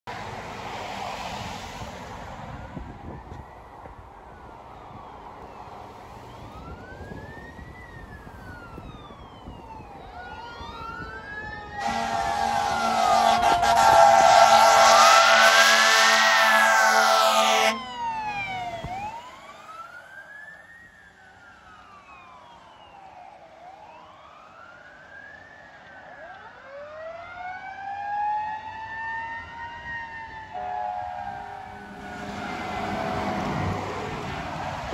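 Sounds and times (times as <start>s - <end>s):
passing vehicle road noise: 0.1s - 23.1s, 24.0s - 34.9s
fire engine siren wailing: 0.2s - 34.9s.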